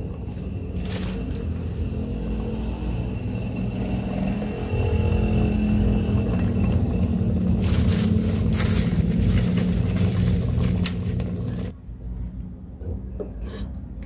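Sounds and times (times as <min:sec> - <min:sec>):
pot of soup boiling: 0:00.0 - 0:11.8.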